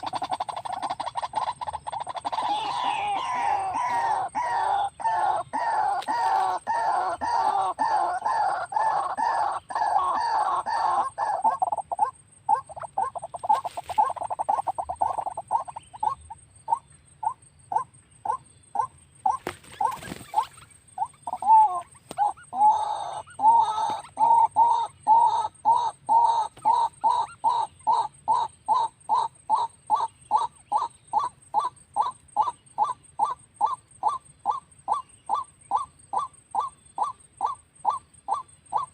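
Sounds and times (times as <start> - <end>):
waterhen croaking calls: 0.0 - 38.9.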